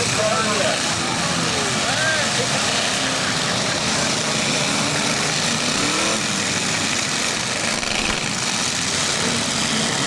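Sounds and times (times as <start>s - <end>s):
several car engines running: 0.0s - 10.0s.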